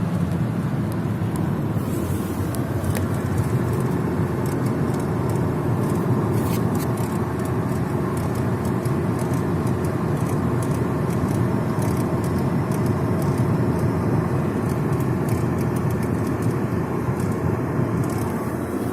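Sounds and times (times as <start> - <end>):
car road noise: 0.0 - 18.9.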